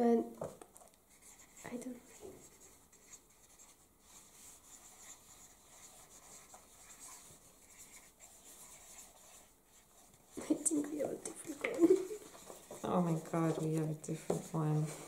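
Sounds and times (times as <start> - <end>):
pen scratching on paper: 1.1 - 15.0.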